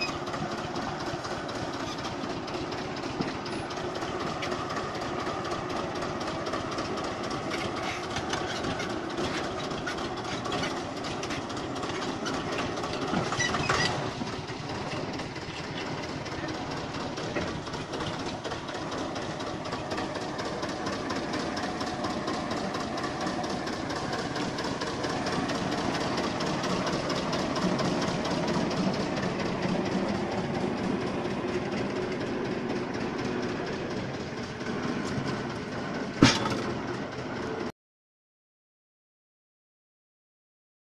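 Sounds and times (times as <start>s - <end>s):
diesel tractor engine clatter: 0.0s - 37.7s.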